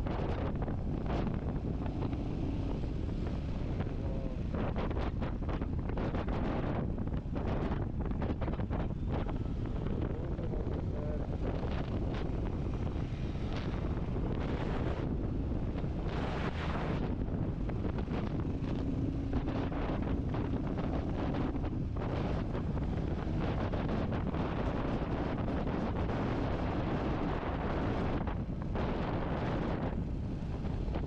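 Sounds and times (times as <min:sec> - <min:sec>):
wind buffeting microphone: 0:00.0 - 0:31.0
motorcycle engine running: 0:00.1 - 0:31.0.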